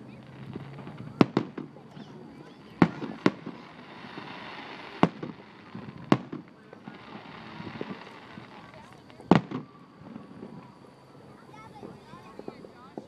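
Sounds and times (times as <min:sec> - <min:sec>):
faint firework crackle: 0:00.0 - 0:13.0
fireworks bursting with sharp bangs: 0:00.0 - 0:13.0.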